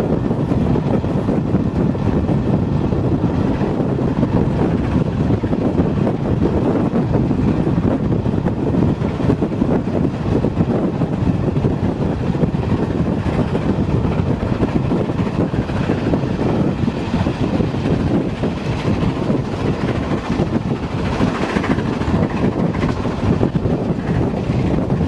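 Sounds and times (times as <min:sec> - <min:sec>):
steam locomotive working hard: 0:00.0 - 0:25.0
wind rush on microphone: 0:00.0 - 0:25.0.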